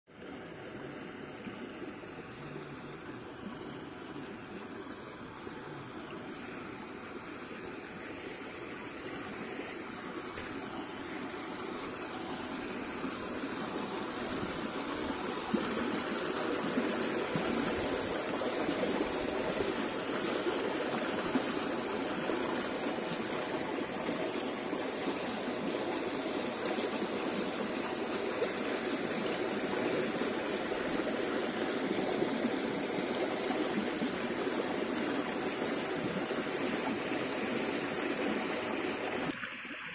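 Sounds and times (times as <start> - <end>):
river water rushing over stones: 0.2 - 39.9.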